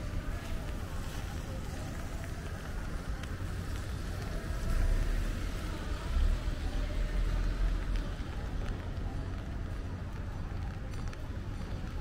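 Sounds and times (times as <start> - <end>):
light rain on wet pavement: 0.0 - 12.0.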